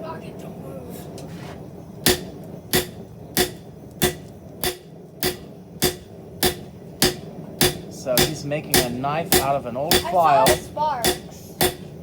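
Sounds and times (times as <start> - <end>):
hammer striking steel on anvil: 2.0 - 12.0.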